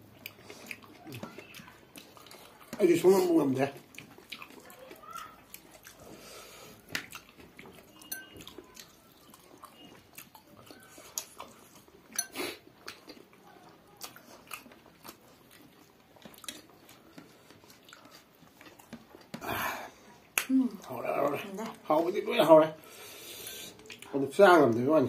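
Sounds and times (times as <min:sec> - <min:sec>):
chewing and lip-smacking: 0:00.0 - 0:21.9, 0:23.4 - 0:24.8.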